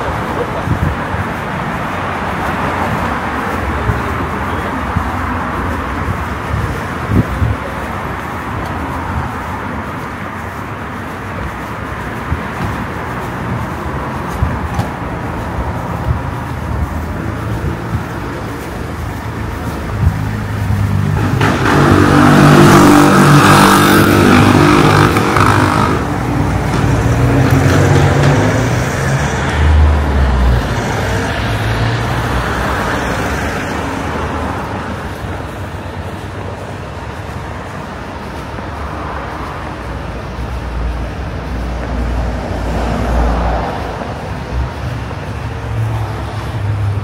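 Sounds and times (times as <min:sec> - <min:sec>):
street traffic: 0:00.0 - 0:47.0
vehicle passing by: 0:02.0 - 0:47.0.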